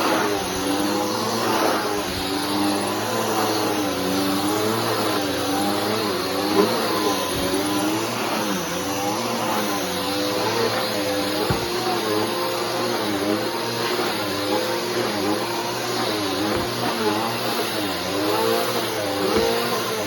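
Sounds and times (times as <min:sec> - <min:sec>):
vacuum cleaner on carpet: 0:00.0 - 0:20.0.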